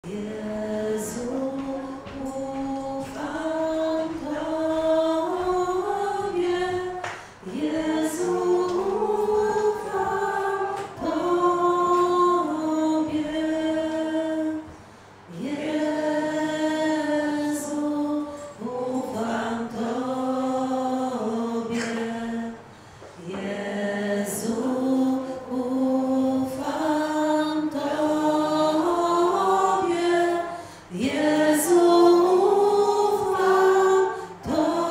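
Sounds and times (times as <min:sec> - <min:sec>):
group singing religious song: 0:00.0 - 0:34.9.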